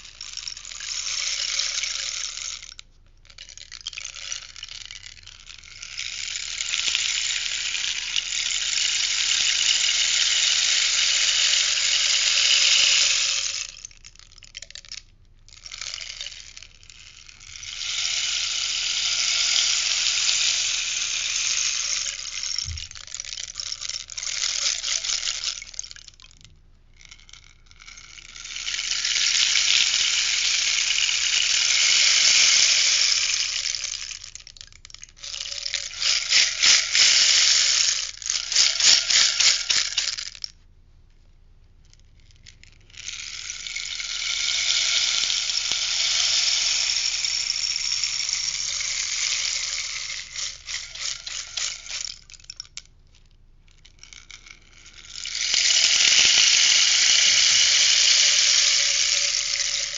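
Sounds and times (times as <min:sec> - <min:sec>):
rainstick pellets trickling: 0:00.0 - 0:40.6, 0:41.9 - 0:52.9, 0:53.7 - 0:59.9.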